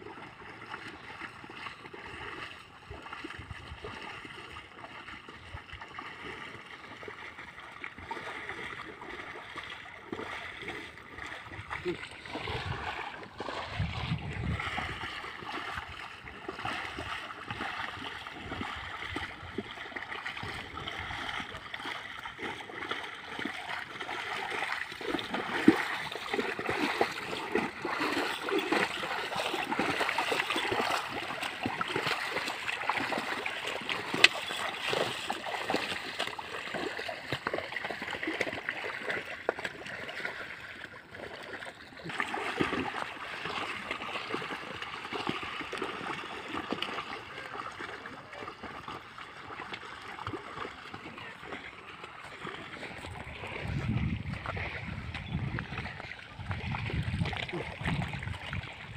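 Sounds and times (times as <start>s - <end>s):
muddy water sloshing and splashing: 0.0s - 58.9s.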